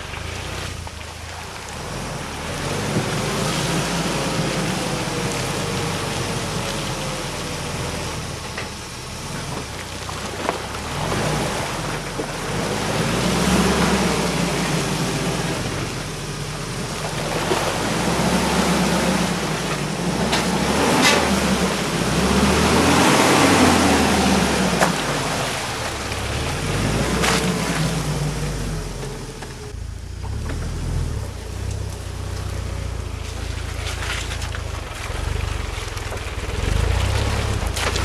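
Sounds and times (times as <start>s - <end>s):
car engine idling: 0.0s - 38.0s
tyre and ground noise: 0.0s - 38.0s.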